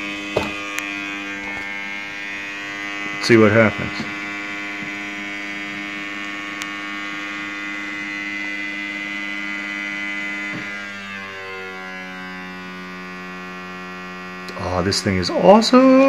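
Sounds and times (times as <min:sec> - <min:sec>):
robot vacuum motor whining: 0:00.0 - 0:16.0.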